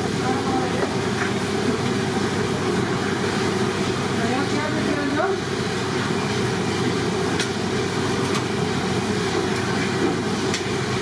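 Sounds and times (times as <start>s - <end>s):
busy kitchen roar: 0.0s - 11.0s.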